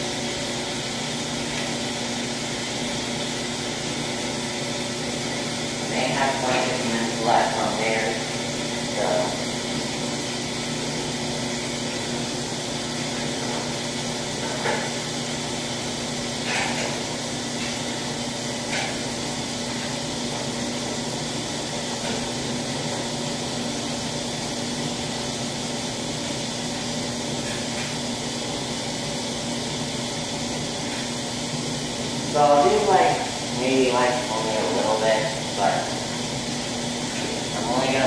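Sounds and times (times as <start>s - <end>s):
laundry machines humming: 0.0s - 38.0s.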